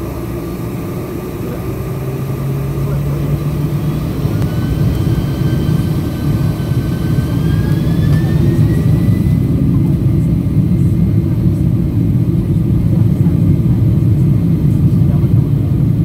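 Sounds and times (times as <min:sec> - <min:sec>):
jet engine low rumble: 0:00.0 - 0:16.0
jet engine whine rising: 0:00.0 - 0:16.0.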